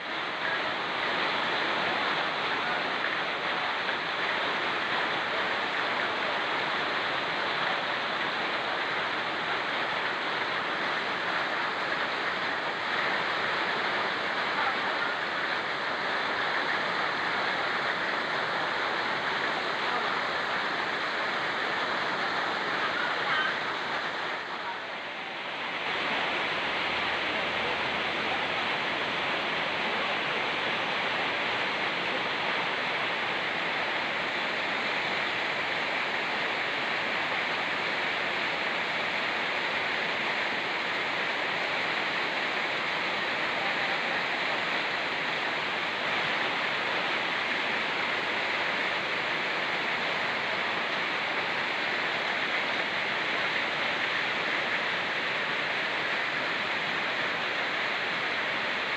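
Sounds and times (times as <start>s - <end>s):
fast-flowing river: 0.0s - 58.9s
rain falling: 0.0s - 58.9s.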